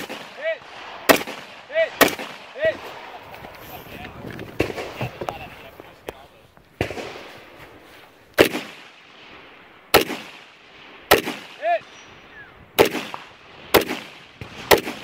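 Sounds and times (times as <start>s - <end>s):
rifle shots with echo: 0.0s - 4.0s, 4.6s - 5.8s, 6.8s - 15.0s.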